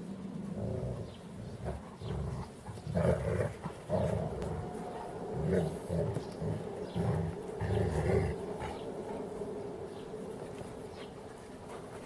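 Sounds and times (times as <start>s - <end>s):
dogs growling: 0.0s - 12.0s.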